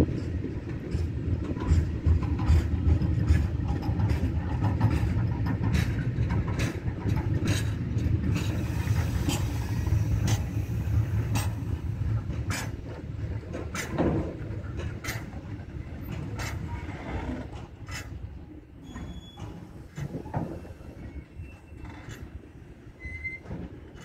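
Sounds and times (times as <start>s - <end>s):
freight train rumbling: 0.0s - 24.0s
train clicks and knocks: 0.0s - 24.0s.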